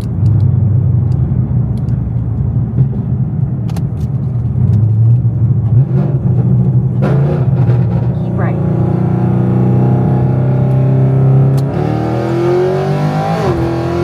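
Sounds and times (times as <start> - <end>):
car engine rumbling while driving: 0.0 - 14.0.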